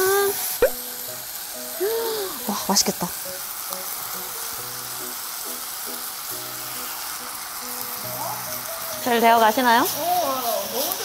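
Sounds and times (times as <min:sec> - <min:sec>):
light background music: 0:00.0 - 0:11.0
meat sizzling in a pot: 0:00.0 - 0:11.0.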